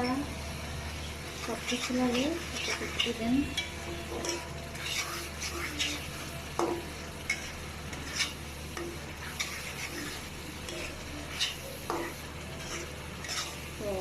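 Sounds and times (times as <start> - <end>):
paste sizzling in oil: 0.0 - 14.0
spoon scraping pan: 1.3 - 14.0.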